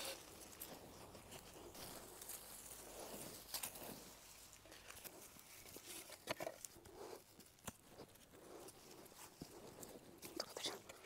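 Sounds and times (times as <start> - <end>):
hands scraping through dry soil: 0.0 - 11.0.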